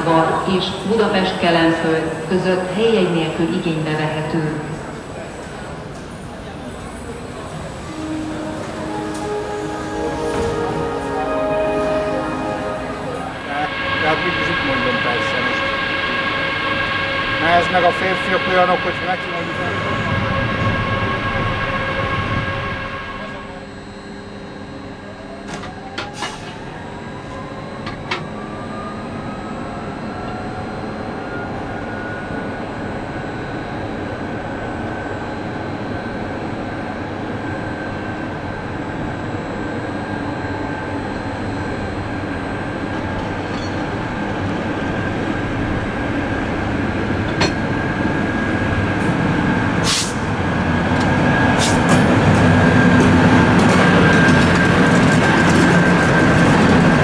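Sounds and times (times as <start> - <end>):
electric locomotive whine: 0.0 - 57.0
train running noise: 0.0 - 57.0.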